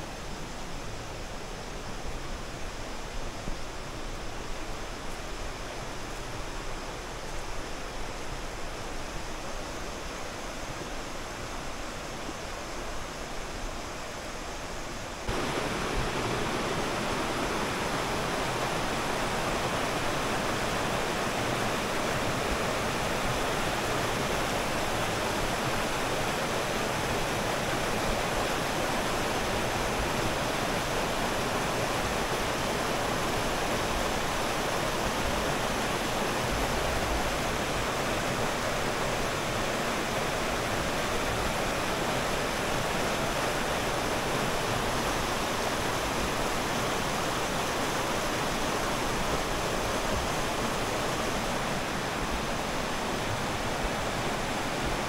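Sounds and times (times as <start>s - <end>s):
mountain stream rushing and splashing: 0.0s - 55.0s.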